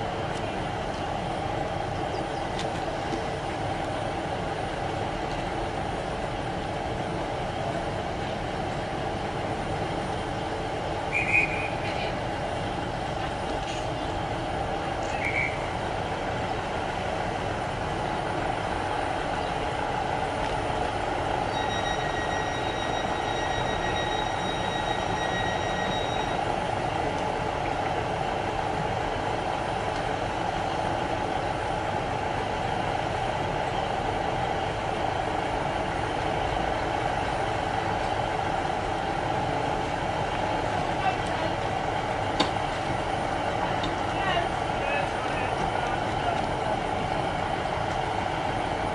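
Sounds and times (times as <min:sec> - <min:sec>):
train diesel engines idling: 0:00.0 - 0:48.9.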